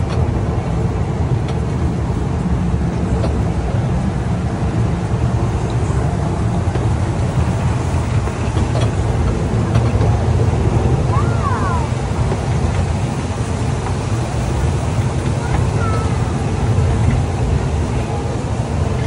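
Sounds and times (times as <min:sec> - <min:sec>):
kiddie ride train rumbling: 0:00.0 - 0:19.0.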